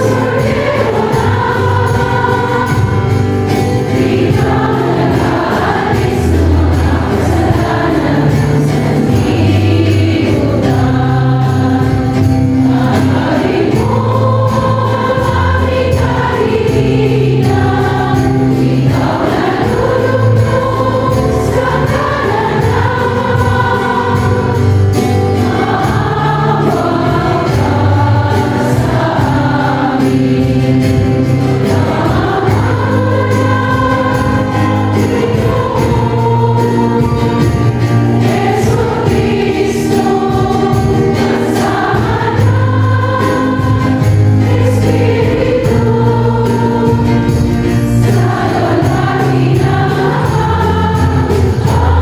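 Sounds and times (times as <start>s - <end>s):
choir singing held chords: 0.0s - 52.0s.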